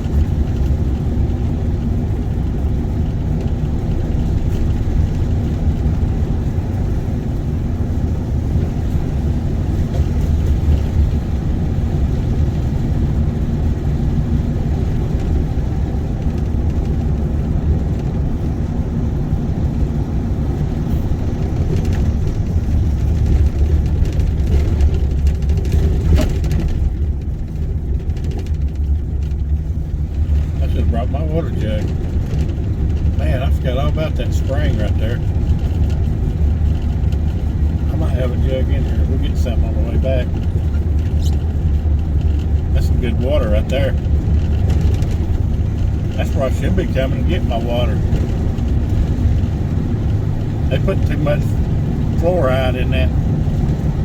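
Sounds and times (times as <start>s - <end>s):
light rattles: 0.0s - 54.0s
vehicle engine and road rumble: 0.0s - 54.0s.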